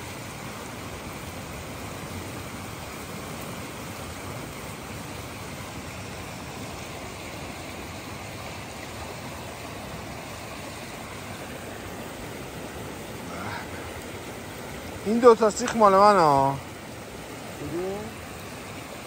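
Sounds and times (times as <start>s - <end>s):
stream water flowing: 0.0s - 19.0s.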